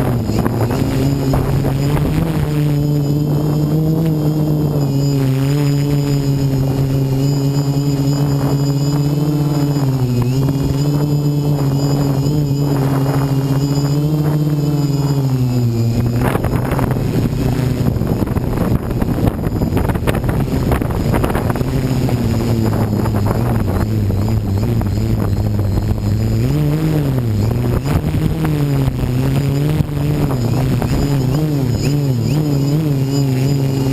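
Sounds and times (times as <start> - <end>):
quadcopter motors humming: 0.0 - 33.9
rough rushing noise: 0.0 - 33.9.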